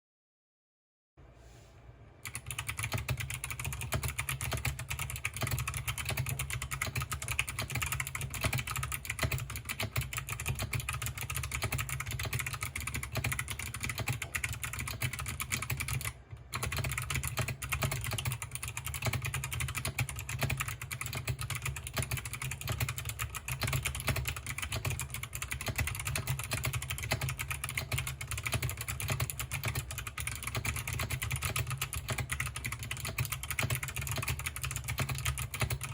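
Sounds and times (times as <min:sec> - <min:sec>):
fast typing on mechanical keyboard: 0:02.2 - 0:35.9.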